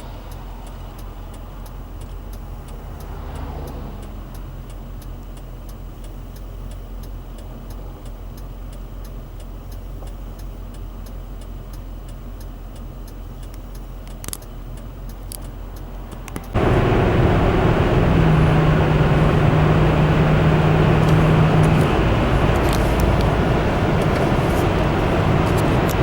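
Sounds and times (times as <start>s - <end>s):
light regular ticks: 0.0s - 16.6s, 21.0s - 26.0s
car engine idling: 0.0s - 26.0s.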